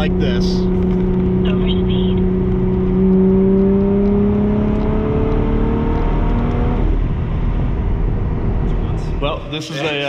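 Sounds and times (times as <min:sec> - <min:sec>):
car engine accelerating: 0:00.0 - 0:10.0
road noise: 0:00.0 - 0:10.0.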